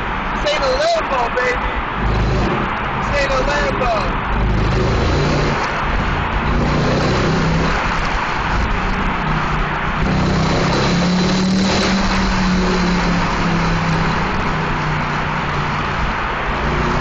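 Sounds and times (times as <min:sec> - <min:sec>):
car engine and exhaust roaring: 0:00.0 - 0:17.0.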